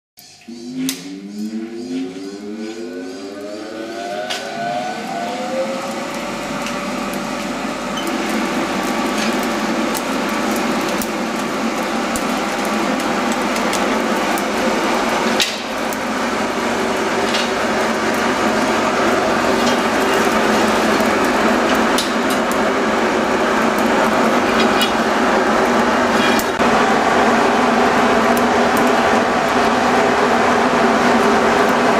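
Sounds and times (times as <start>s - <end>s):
electric blower whine: 0.4s - 31.9s
coals crackling and popping: 2.7s - 31.9s.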